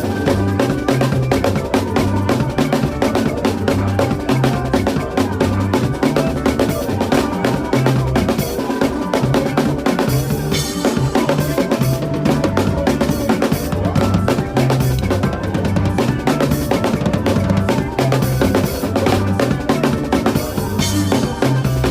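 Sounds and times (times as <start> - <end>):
bass line: 0.0 - 21.9
drum kit playing fast groove: 0.0 - 21.9.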